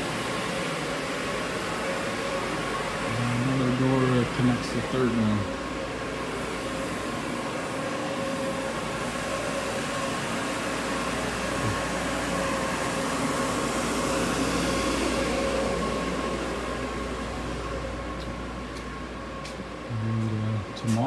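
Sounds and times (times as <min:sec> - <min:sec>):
constant hum: 0:00.0 - 0:21.0
dehumidifier fan rushing: 0:00.0 - 0:21.0.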